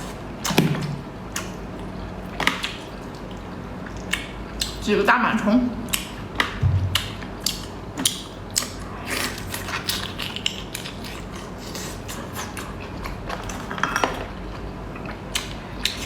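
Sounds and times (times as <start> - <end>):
wet chewing clicks and crackles: 1.3 - 4.9, 5.9 - 16.0.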